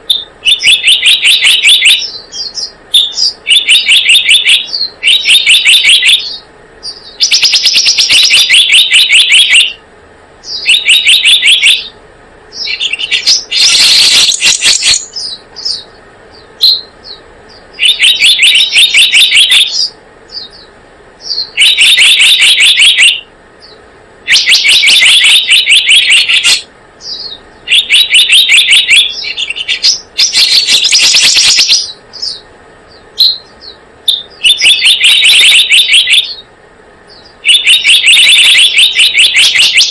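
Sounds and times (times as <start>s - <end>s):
bird trilled phrases: 0.0s - 9.8s, 10.4s - 32.5s, 33.2s - 36.5s, 37.1s - 39.9s.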